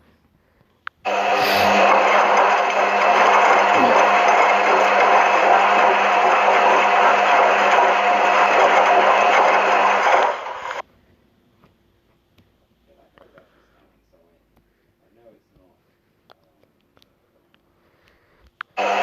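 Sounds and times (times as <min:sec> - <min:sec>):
washing machine whirring hum: 0:00.0 - 0:16.2, 0:17.1 - 0:19.0.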